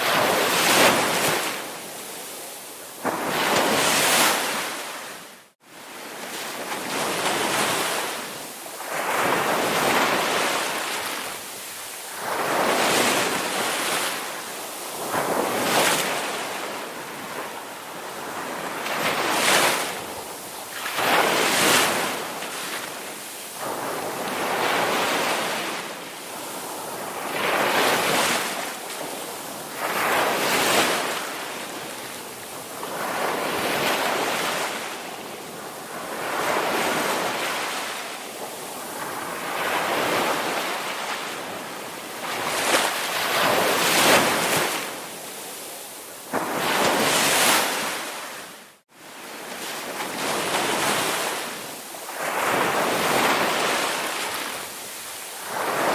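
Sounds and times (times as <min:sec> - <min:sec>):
ocean waves breaking: 0:05.9 - 0:55.9.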